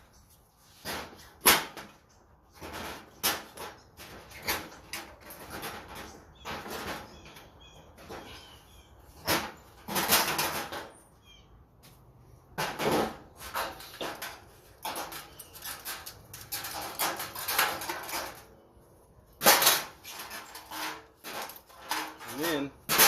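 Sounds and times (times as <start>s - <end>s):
sheet metal scraping and rattling: 0.7s - 8.4s, 9.2s - 10.9s, 12.6s - 18.6s, 19.4s - 23.0s.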